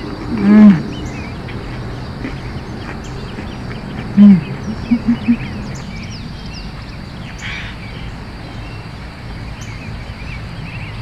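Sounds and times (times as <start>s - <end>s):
birds chirping: 0.0s - 11.0s
steady low background noise: 0.0s - 11.0s.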